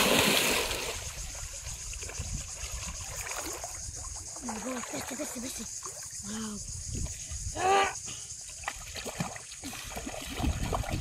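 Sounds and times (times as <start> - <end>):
water sloshing and splashing: 0.0 - 6.3, 8.4 - 11.0.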